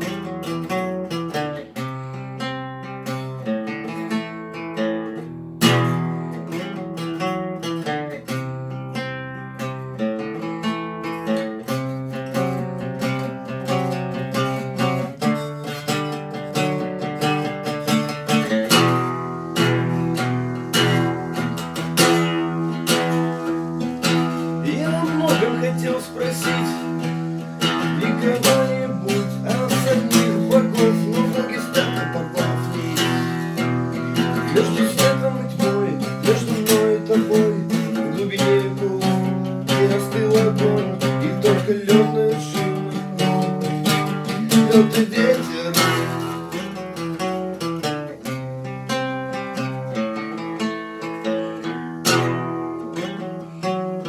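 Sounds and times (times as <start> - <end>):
guitar strumming: 0.0 - 54.0.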